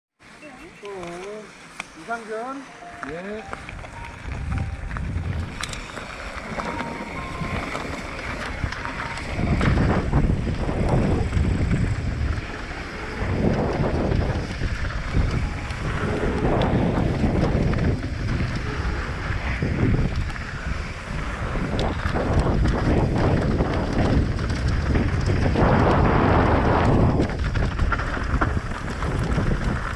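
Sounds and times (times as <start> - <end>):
sharp rattles and clicks: 3.0 - 29.9
low rumble: 3.2 - 29.7
wind buffeting microphone: 3.5 - 29.9.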